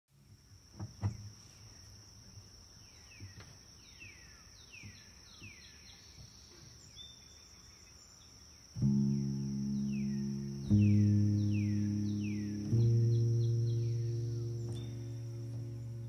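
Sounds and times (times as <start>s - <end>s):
birds whistling faintly: 0.1s - 16.0s.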